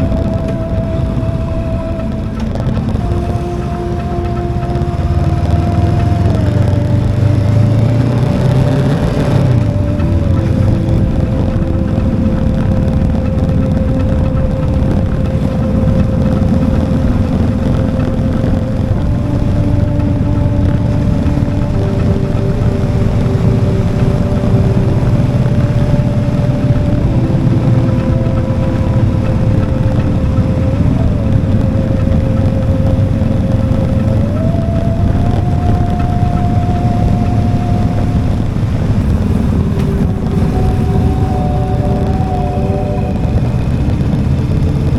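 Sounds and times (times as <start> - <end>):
motorcycle engine cruising: 0.0 - 44.9
wind and road noise: 0.0 - 44.9.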